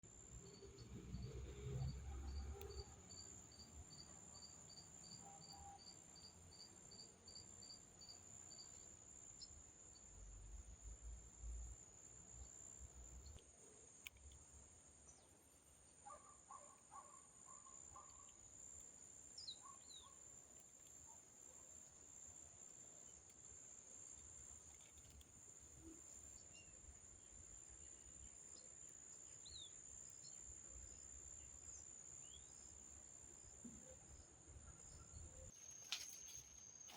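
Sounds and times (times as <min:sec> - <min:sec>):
repeated insect chirp: 0:00.1 - 0:36.9.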